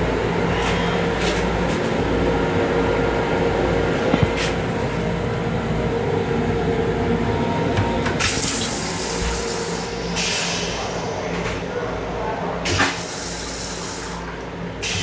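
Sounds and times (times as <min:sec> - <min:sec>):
railcar hum: 0:00.0 - 0:15.0.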